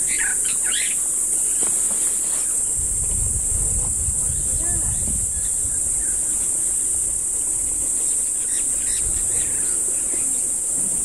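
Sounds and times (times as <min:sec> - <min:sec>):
faint insect chirps: 0:00.0 - 0:11.0
insect chorus drone: 0:00.0 - 0:11.0.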